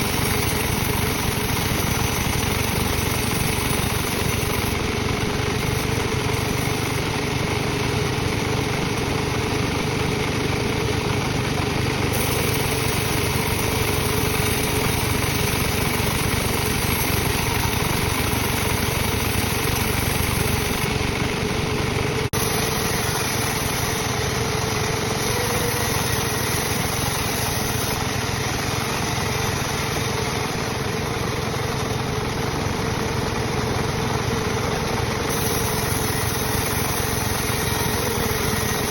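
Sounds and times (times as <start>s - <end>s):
sawmill saw cutting wood: 0.0s - 38.9s.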